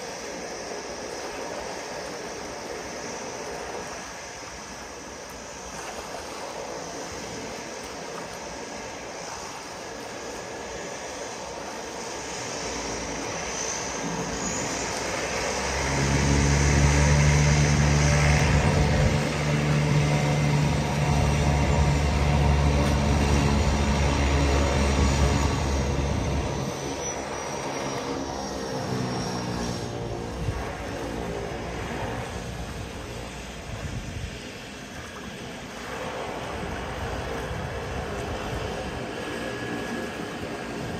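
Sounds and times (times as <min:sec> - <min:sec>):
seaplane propeller and engine drone: 0:00.0 - 0:40.9.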